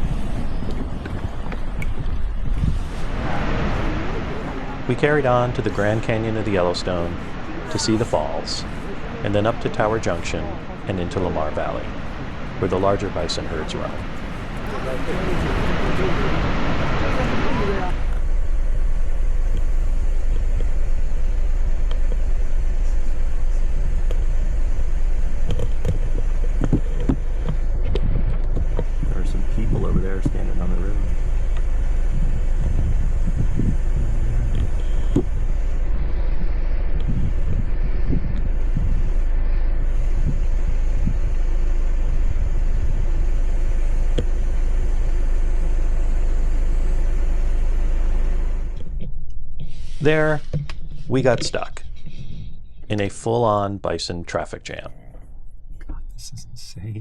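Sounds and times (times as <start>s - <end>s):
car engine and road noise: 0.0s - 53.2s.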